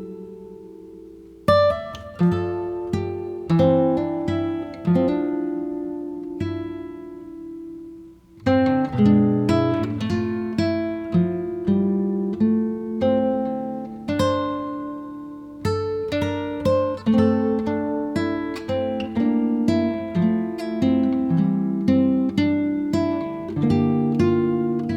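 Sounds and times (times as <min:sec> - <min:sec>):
acoustic guitar plucking: 0:00.0 - 0:24.9.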